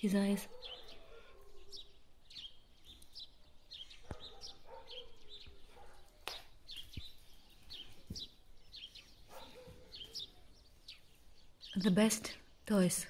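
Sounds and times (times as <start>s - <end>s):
small bird chirping: 0.3s - 13.0s.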